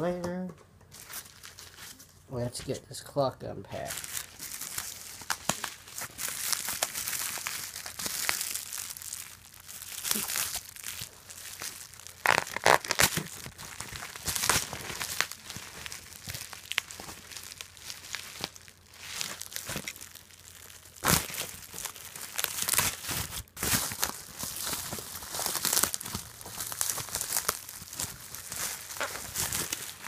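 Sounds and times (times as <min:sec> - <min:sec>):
wrapping crinkling and rustling: 0:00.9 - 0:02.8, 0:03.7 - 0:30.0.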